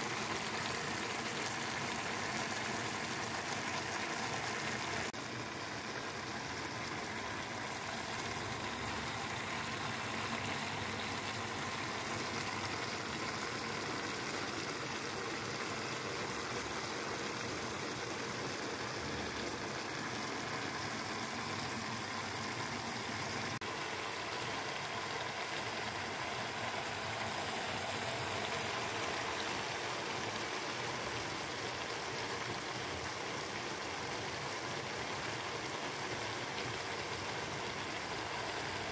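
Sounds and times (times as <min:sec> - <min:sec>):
broth bubbling in a wok: 0:00.0 - 0:38.9.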